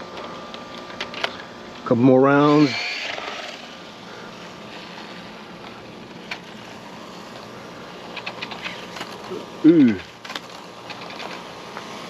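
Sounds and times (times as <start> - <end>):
rc motorcycle electric motor whirr: 0.0 - 12.0.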